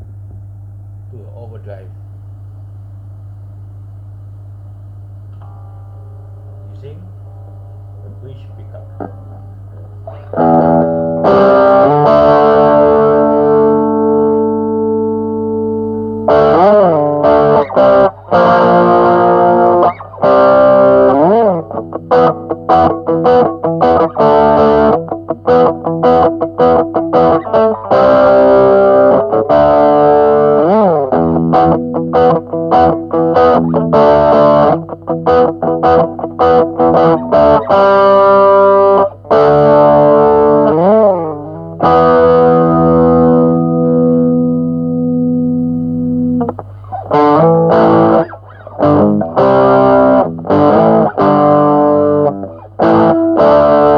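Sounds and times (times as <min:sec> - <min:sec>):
low amp hum: 0:00.0 - 0:53.9
distorted electric guitar: 0:05.4 - 0:53.9.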